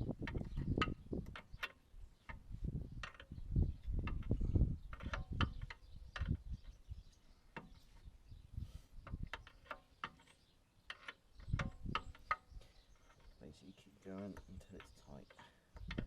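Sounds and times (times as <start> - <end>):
metallic clicks and knocks: 0.0 - 6.8, 9.0 - 16.0.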